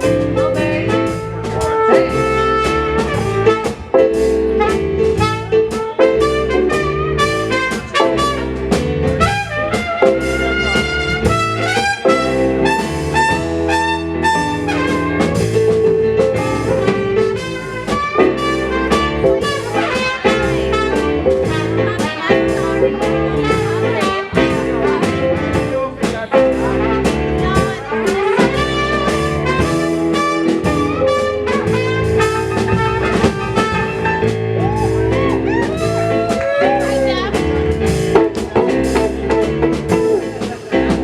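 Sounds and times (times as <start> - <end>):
horn solo: 0.0 - 15.7, 16.4 - 25.9, 26.5 - 37.4
drums: 0.0 - 41.0
walking bass: 0.0 - 41.0.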